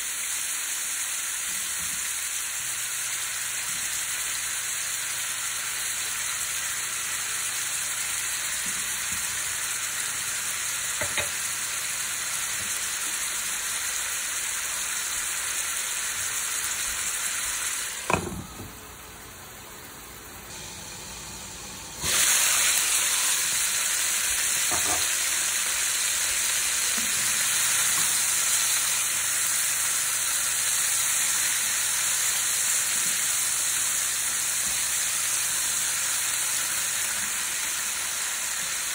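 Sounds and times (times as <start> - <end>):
chicken sizzling in a frying pan: 0.0 - 38.9.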